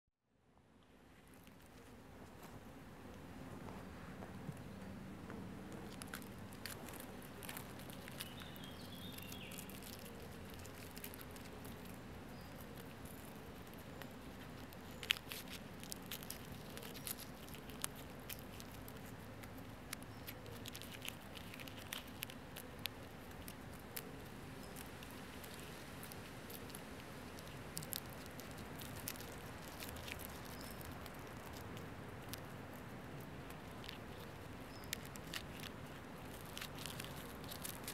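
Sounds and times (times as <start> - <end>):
low steady hum: 0.3 - 37.9
beetle chewing soft clicks: 5.7 - 37.9.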